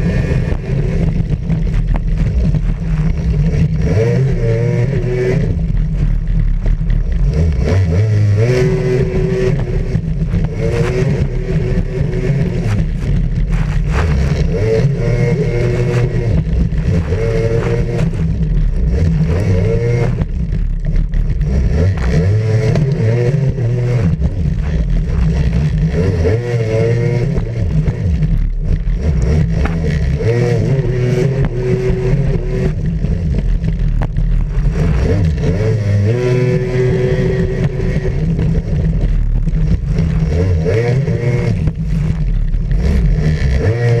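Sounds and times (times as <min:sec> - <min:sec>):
jet ski engine revving: 0:00.0 - 0:44.0
wind: 0:00.0 - 0:44.0.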